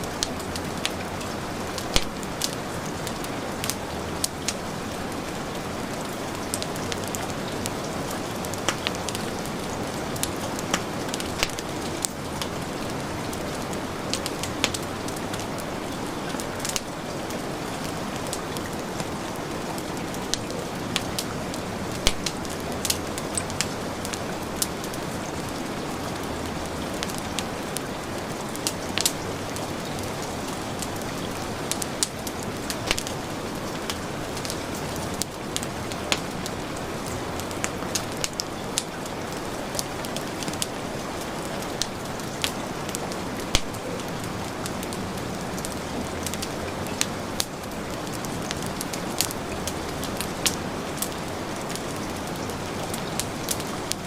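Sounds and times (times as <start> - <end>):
heavy rain: 0.0 - 54.0
wood fire crackling: 0.0 - 54.0.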